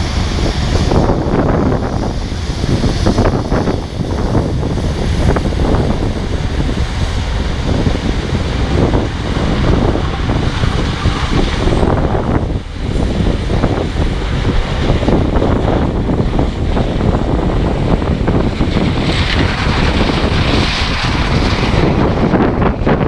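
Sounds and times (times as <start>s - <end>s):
harvest machinery running: 0.0s - 23.0s
wind buffeting microphone: 0.0s - 23.0s.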